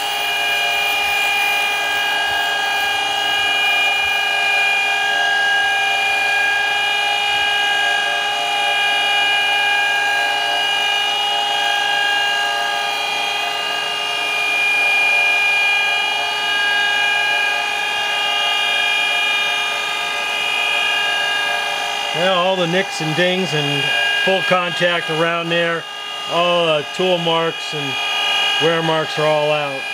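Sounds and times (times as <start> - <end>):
grinder high-pitched whine: 0.0 - 29.9.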